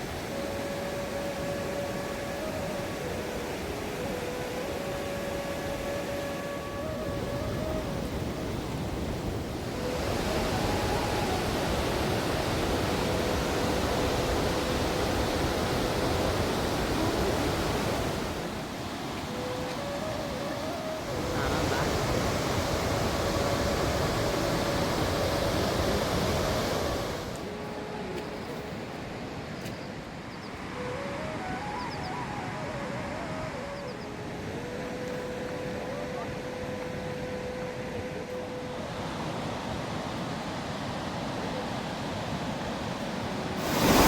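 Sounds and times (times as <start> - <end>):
rushing river water: 0.0 - 44.0.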